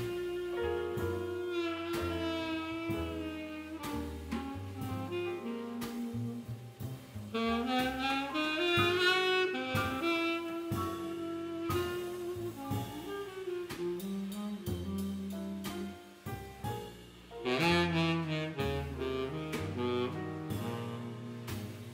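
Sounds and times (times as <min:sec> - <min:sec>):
tenor saxophone melody: 0:00.0 - 0:15.8, 0:17.4 - 0:21.9
double bass: 0:00.0 - 0:21.9
drums: 0:00.0 - 0:21.9
piano: 0:00.0 - 0:21.9.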